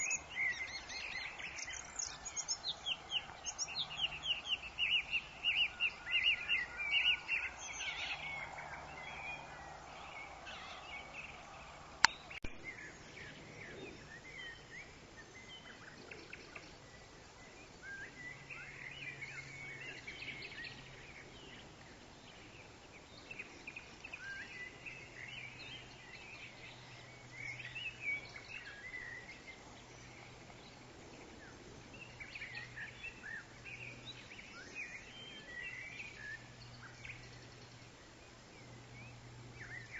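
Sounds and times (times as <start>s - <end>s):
birds chirping and calling: 0.0s - 38.0s
background ambience: 0.0s - 39.9s.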